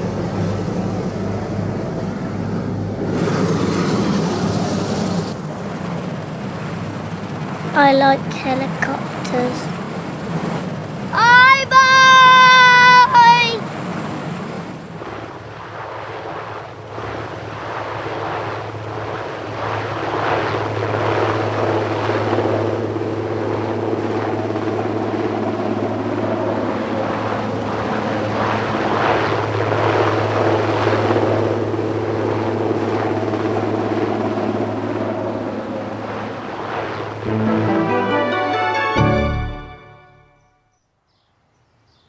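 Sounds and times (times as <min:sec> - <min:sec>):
helicopter engine and rotors: 0:00.0 - 0:37.6.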